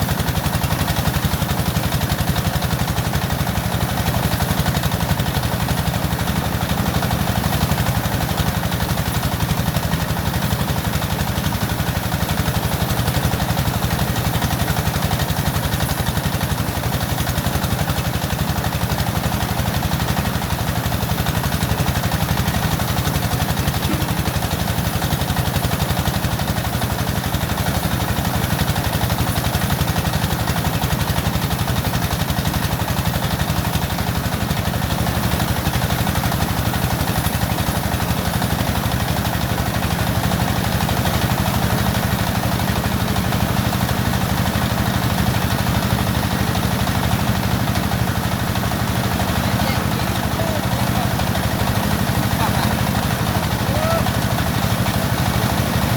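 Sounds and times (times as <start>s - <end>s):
engine running with clatter: 0.0s - 55.9s.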